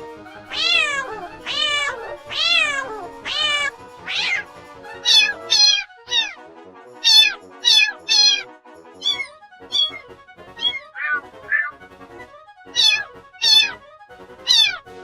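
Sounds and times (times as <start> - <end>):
kittens meowing: 0.5 - 6.4, 7.0 - 11.8, 12.8 - 13.8, 14.5 - 14.8.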